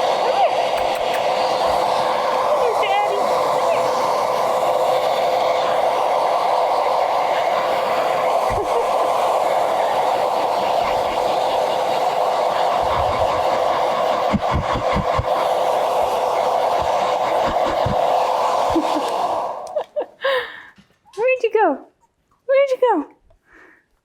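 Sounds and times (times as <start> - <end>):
hairdryer blowing: 0.0 - 20.7.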